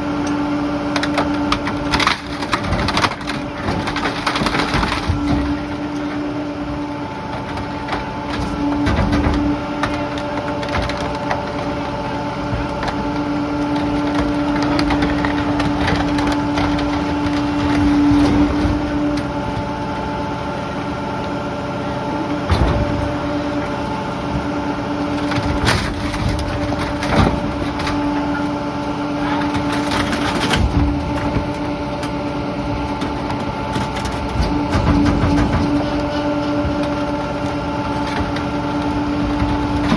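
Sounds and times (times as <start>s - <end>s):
garbage truck engine hum: 0.0s - 39.9s
wood cracking and splintering: 0.9s - 20.6s, 22.4s - 39.9s.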